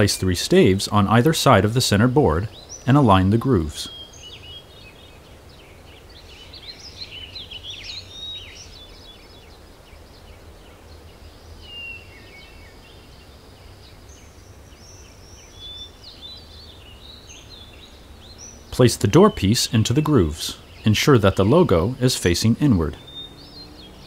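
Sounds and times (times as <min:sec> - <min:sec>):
songbirds chirping and warbling: 0:00.0 - 0:24.0.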